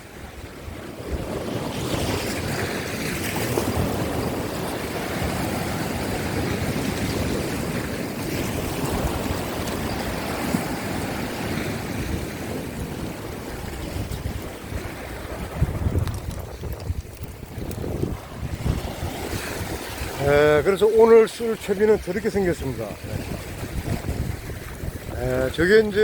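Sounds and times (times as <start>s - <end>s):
sea waves breaking over rocks: 0.0s - 26.0s
wind buffeting microphone: 0.0s - 26.0s.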